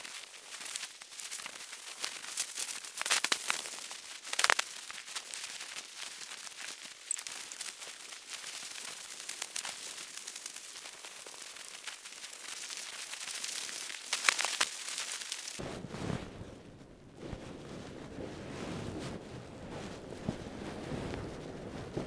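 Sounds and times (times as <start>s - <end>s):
camping gear rustling and crinkling: 0.0s - 16.4s, 17.2s - 22.0s.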